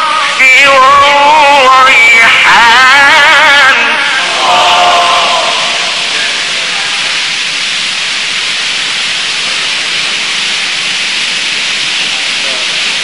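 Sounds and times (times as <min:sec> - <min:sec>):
recording hiss: 0:00.0 - 0:13.0.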